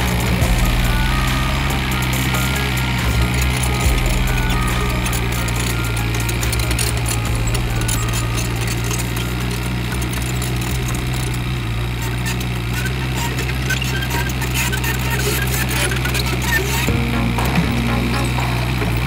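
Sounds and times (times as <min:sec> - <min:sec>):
mini excavator diesel engine: 0:00.0 - 0:19.0.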